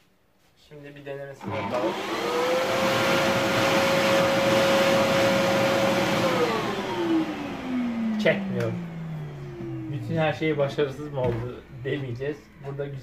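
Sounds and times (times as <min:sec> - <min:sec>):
vacuum cleaner motor whine: 0:01.4 - 0:13.0.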